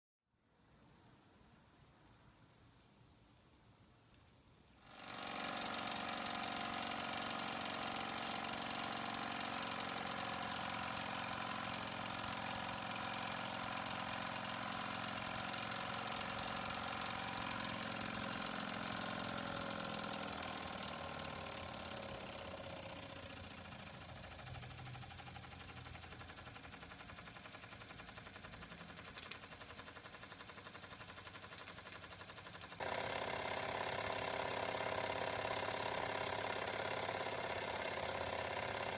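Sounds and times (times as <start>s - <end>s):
toy steam engine running: 4.8s - 38.9s.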